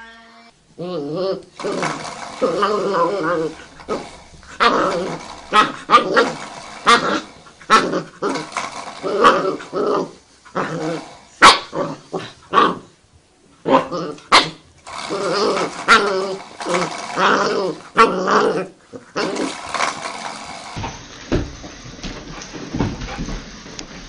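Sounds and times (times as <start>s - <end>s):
dog growling: 0.8s - 13.0s, 13.6s - 20.8s.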